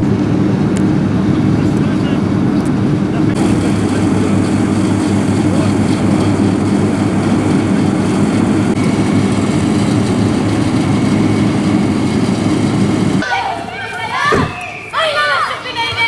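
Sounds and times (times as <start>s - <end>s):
diesel machinery engines droning: 0.0s - 16.0s.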